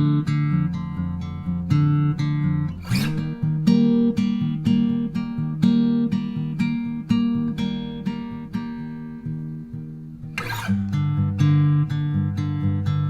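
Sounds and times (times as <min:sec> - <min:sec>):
acoustic guitar plucking: 0:00.0 - 0:13.0
guitar strum: 0:00.0 - 0:13.0.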